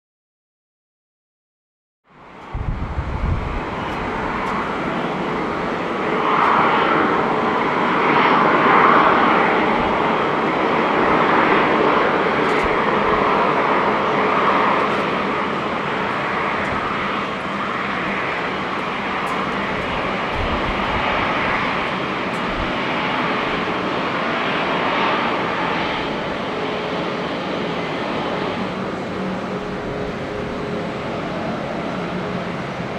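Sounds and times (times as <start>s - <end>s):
jet engines at takeoff: 2.1s - 32.9s
wind buffeting microphone: 2.4s - 32.9s.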